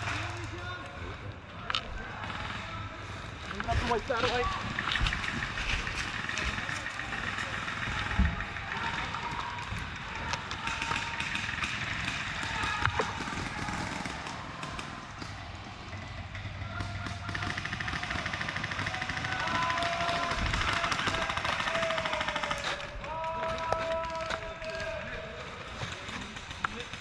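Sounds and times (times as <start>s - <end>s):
distant players calling out: 0.0s - 27.0s.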